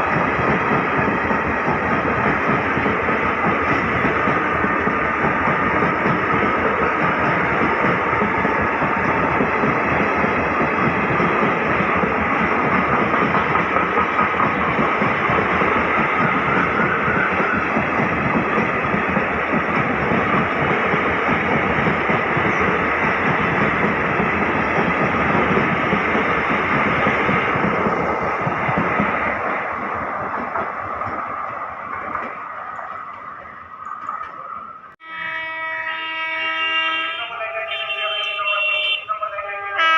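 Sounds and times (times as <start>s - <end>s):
train wheels rattling on track: 0.0s - 39.9s.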